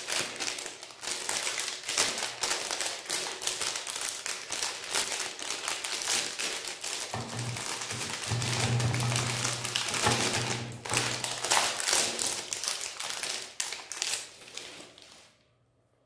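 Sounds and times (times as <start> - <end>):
foil wrapper crinkling: 0.0 - 15.4.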